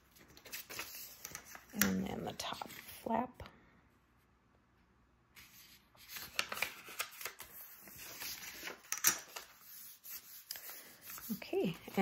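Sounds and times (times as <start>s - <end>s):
paper rustling and crinkling: 0.0s - 3.0s, 5.4s - 12.0s.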